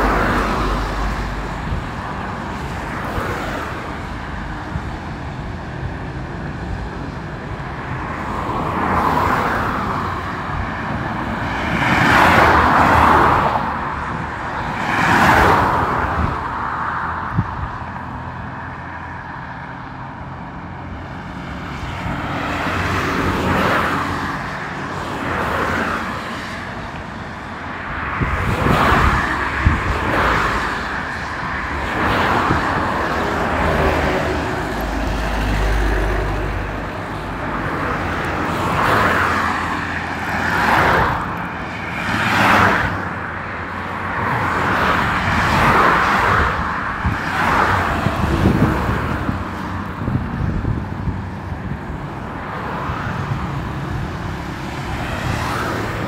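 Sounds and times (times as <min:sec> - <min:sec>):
cars passing on expressway: 0:00.0 - 0:56.0.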